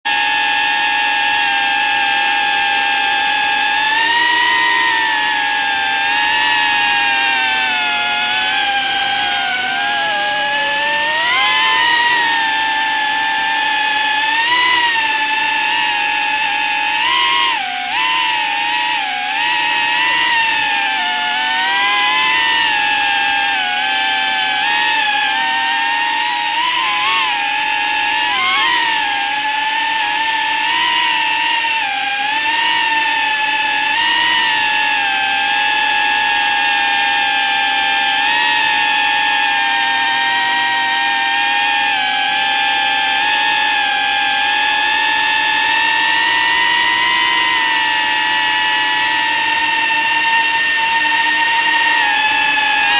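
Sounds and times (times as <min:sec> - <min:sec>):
drone motors whining: 0:00.1 - 0:52.9.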